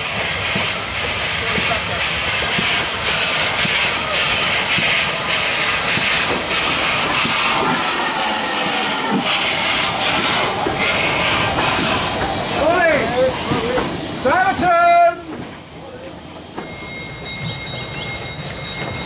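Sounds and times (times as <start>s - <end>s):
soft regular locomotive beats: 0.0s - 19.0s
steam locomotive hiss: 0.0s - 19.0s.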